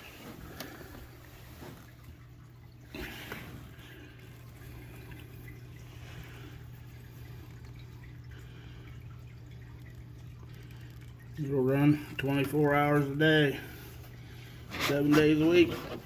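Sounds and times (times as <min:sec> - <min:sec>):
water trickling through drain pipe: 0:00.0 - 0:16.0.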